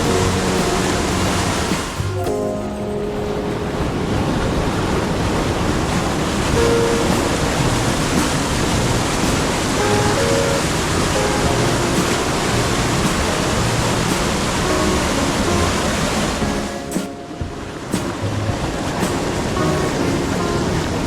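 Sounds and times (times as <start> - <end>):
faint music notes: 0.0 - 5.3, 5.9 - 21.0
water rushing over rapids: 0.0 - 21.0.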